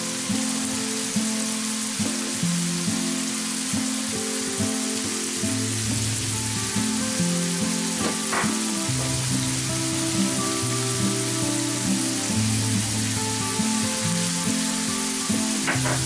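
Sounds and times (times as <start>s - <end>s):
background music: 0.0s - 16.0s
meat sizzling in a pan: 0.0s - 16.0s.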